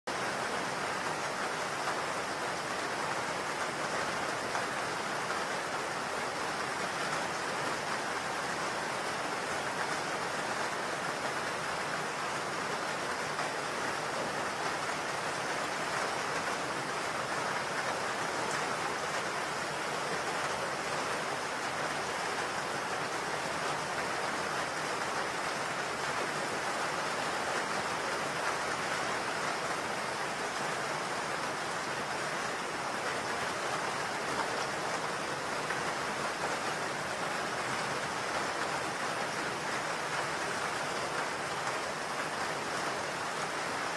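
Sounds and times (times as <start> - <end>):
steady rain-like hiss: 0.1 - 43.9.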